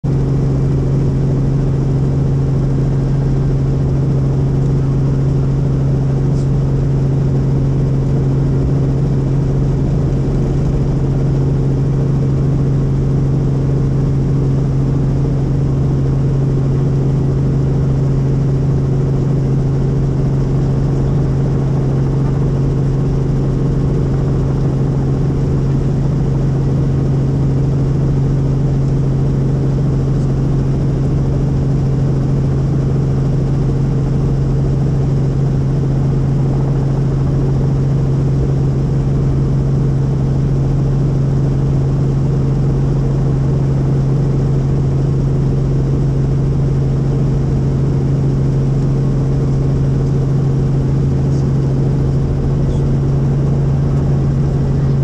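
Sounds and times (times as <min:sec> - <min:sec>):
helicopter drone: 0:00.0 - 0:55.0.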